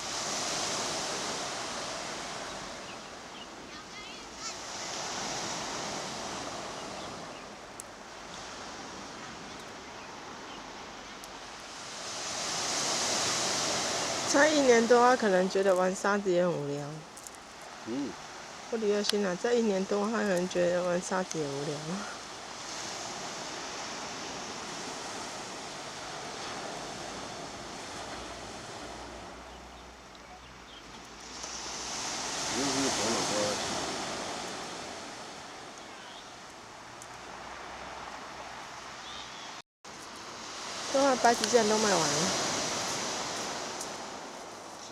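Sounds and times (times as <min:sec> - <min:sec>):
ocean surf on beach: 0:00.0 - 0:44.9.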